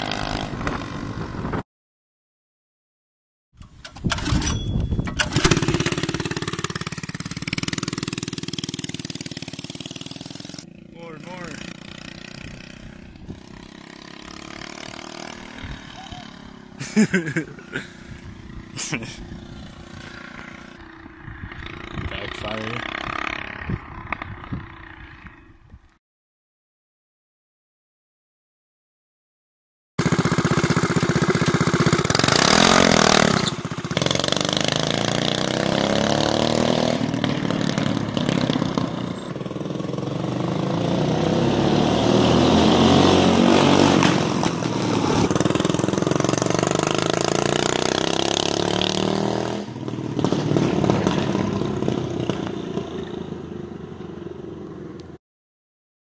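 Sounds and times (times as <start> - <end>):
mini bike engine revving: 0.0 - 1.4, 5.2 - 25.4, 30.0 - 54.2.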